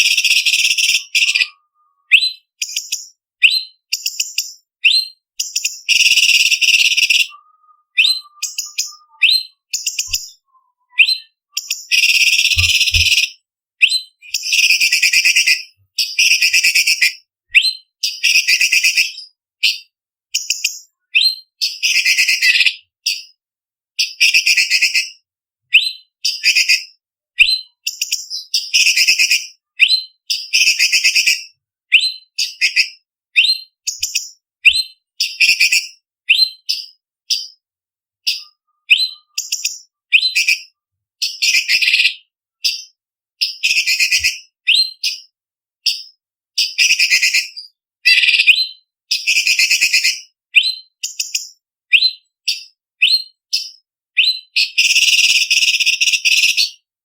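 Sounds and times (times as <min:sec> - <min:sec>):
bird singing whistled notes: 0:00.0 - 0:23.4, 0:24.0 - 0:37.6, 0:38.2 - 0:56.8.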